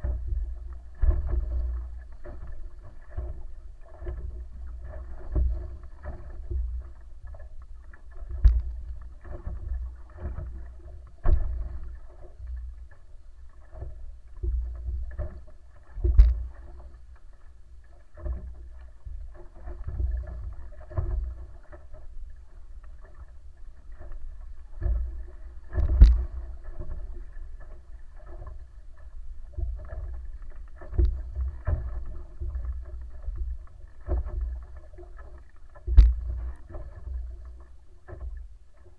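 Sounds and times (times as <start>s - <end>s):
canoe rumbling through water: 0.0s - 38.9s.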